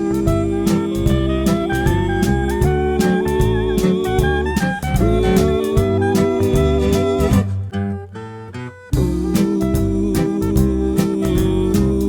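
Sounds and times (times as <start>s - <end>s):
jazz band playing: 0.0s - 8.0s, 9.0s - 12.0s.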